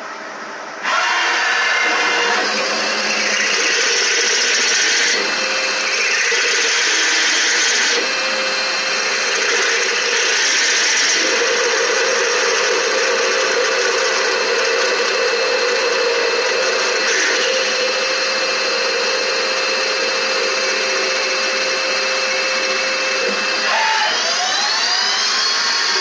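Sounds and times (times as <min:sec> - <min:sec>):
lathe machining whir: 0:00.0 - 0:26.0.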